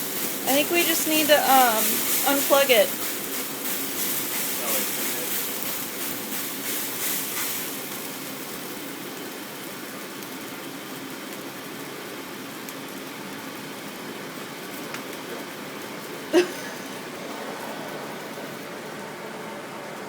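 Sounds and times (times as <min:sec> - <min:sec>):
grease crackling and sizzling: 0:00.0 - 0:19.0
steady rushing hiss: 0:00.0 - 0:20.0.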